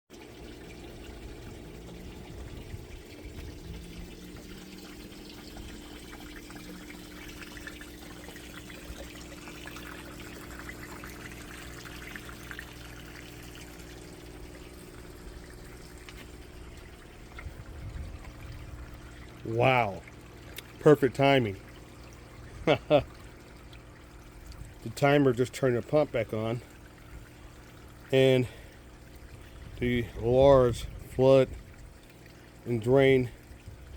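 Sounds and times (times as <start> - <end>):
steady low pump hum: 0.1 - 33.9
water pouring and trickling: 0.1 - 33.9.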